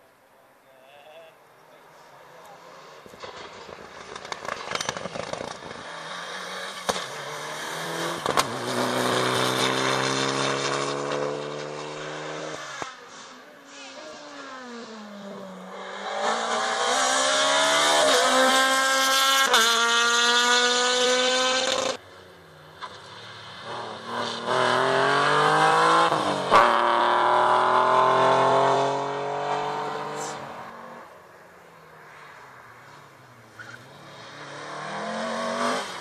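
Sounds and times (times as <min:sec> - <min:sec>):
rally car accelerating through gears: 0:03.1 - 0:22.0, 0:22.8 - 0:31.1, 0:33.4 - 0:36.0.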